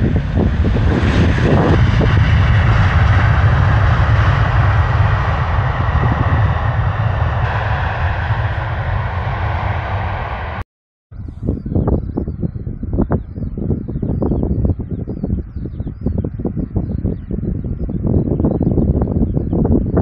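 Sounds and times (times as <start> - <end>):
airliner jet engines rumbling: 0.0 - 20.0.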